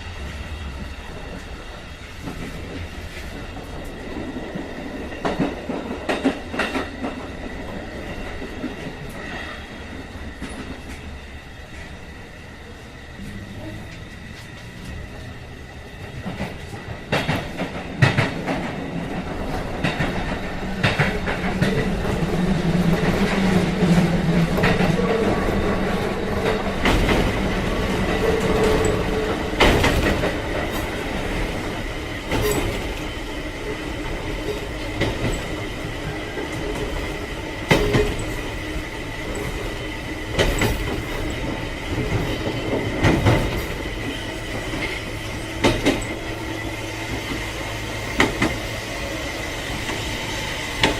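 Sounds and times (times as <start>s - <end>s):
railcar running noise: 0.0s - 50.9s
train wheels clacking on rail joints: 0.2s - 12.0s, 15.9s - 50.9s.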